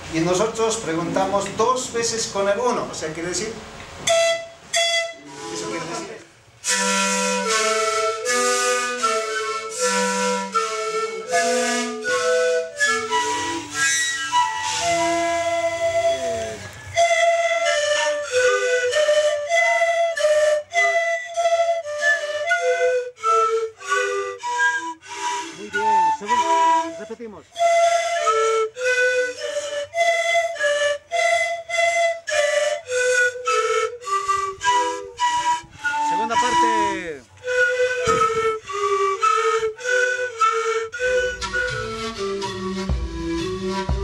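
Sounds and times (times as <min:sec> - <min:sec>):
panpipes playing breathy notes: 0:04.0 - 0:44.0.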